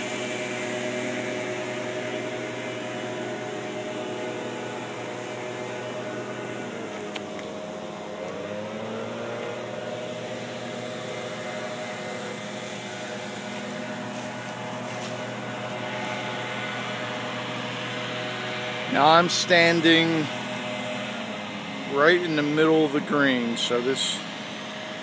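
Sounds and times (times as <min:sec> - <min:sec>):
mechanical hum with held tones: 0:00.0 - 0:25.0.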